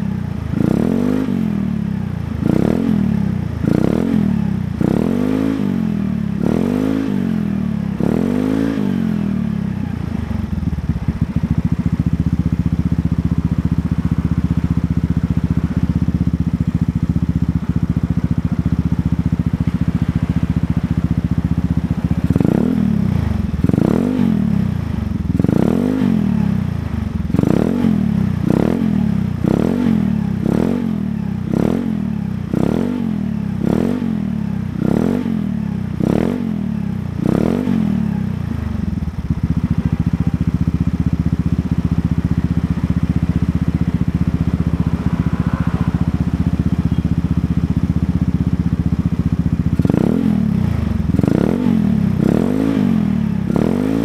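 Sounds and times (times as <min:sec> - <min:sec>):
scooter engine revving and idling: 0:00.0 - 0:54.0.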